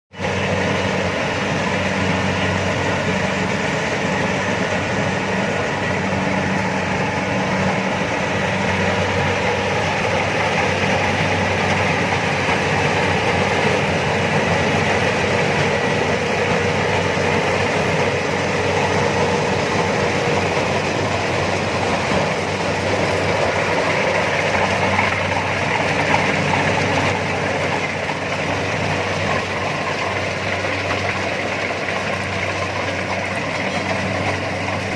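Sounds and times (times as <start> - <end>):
combine harvester engine humming: 0.2 - 34.9.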